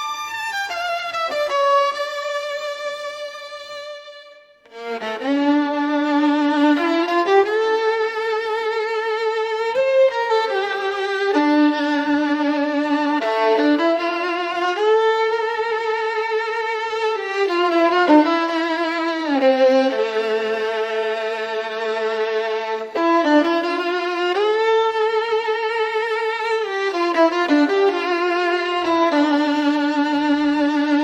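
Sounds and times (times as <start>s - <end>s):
solo violin melody: 0.0s - 31.0s.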